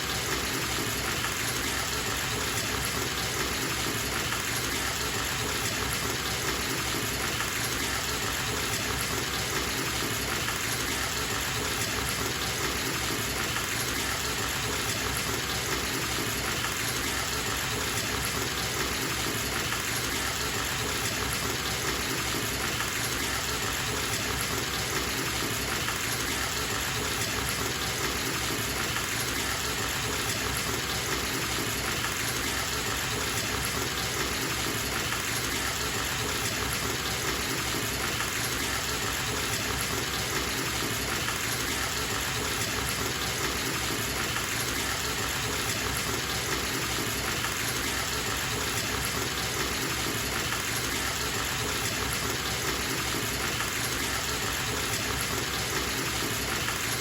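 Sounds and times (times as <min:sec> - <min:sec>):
water gushing from tap into tub: 0:00.0 - 0:57.0.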